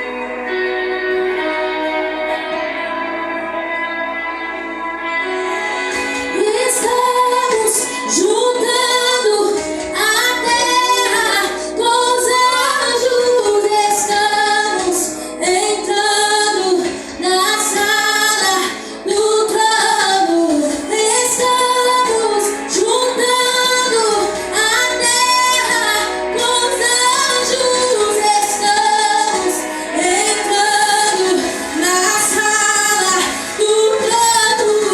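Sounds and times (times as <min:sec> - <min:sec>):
woman singing: 0:05.0 - 0:34.9.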